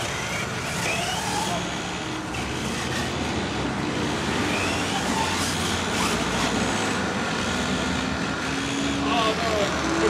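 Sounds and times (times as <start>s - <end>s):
rc car motor whine: 0.0s - 10.0s.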